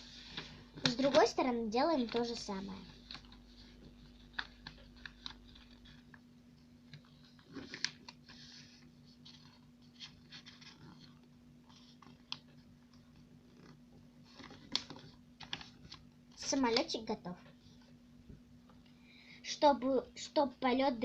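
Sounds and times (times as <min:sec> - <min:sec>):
paper rustle: 0:00.0 - 0:06.2, 0:06.8 - 0:18.0
paper crinkling: 0:00.0 - 0:17.0.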